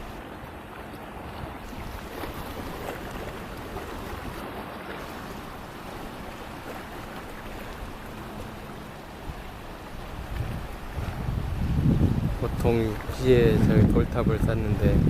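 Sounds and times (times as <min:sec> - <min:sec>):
waves on rocky shore: 0:00.0 - 0:15.0
wind rumbling on microphone: 0:01.2 - 0:15.0.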